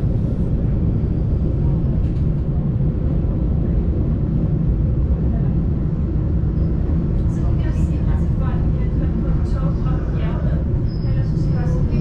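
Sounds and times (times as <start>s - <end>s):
train rumble on board: 0.0s - 12.0s.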